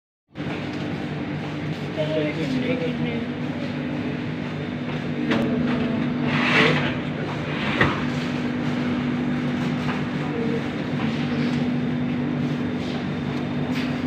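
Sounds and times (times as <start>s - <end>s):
machine hum: 0.3s - 14.0s.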